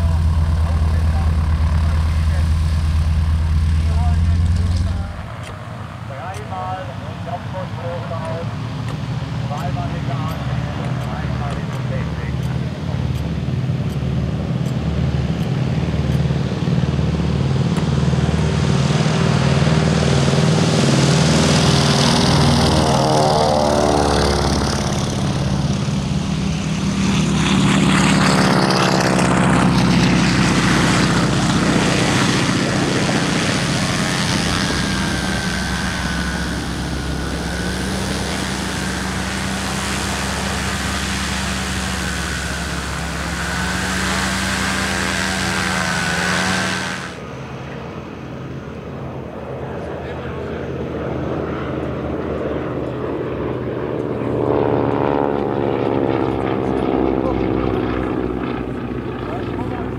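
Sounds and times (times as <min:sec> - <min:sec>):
propeller aircraft engines passing: 0:00.0 - 0:59.9.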